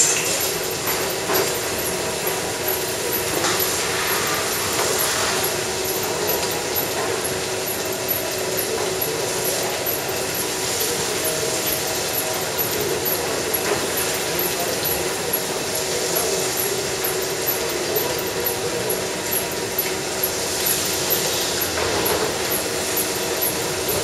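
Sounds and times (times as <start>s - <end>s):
milking machine hum: 0.0s - 24.0s.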